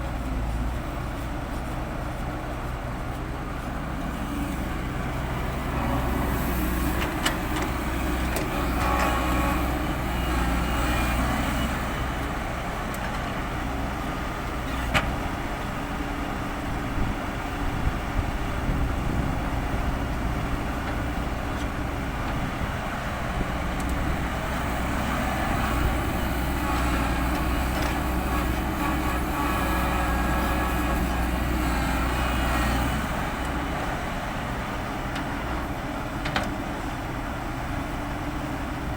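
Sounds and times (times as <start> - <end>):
heavy machinery diesel engine running: 0.0 - 38.9.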